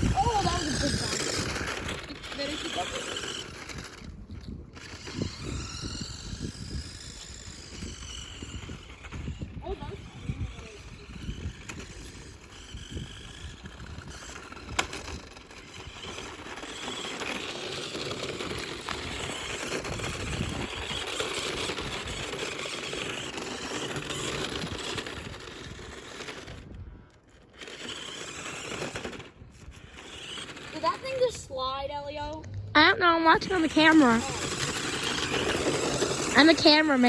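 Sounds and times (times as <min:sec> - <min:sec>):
remote-control car on dirt: 0:00.0 - 0:37.0.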